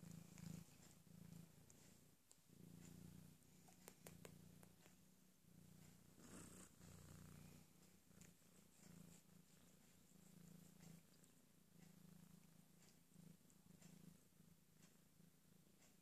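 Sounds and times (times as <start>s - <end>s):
cat purring: 0.0s - 16.0s
faint clicks: 0.2s - 5.0s, 7.7s - 16.0s.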